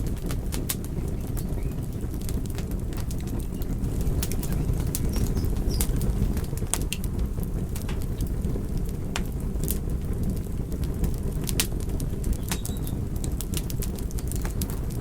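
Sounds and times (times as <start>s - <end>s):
low rumble of burning logs: 0.0s - 15.0s
wood fire crackling and popping: 0.0s - 15.0s.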